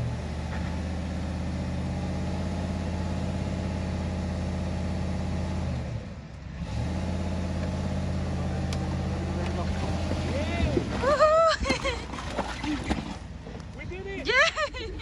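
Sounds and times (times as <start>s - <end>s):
truck engine running under load: 0.0s - 13.8s.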